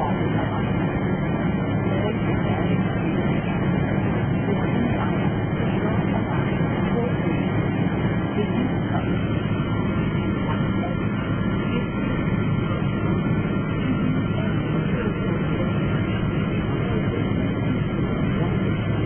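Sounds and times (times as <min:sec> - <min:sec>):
airliner cabin rumble and hiss: 0:00.0 - 0:19.0.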